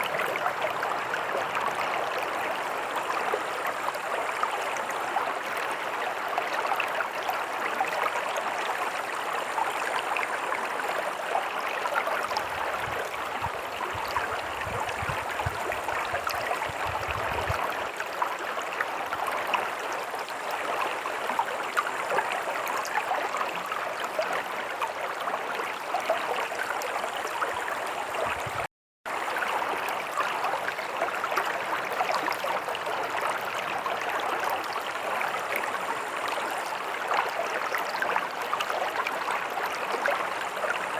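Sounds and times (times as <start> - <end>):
stream gurgling over rocks: 0.0 - 40.9.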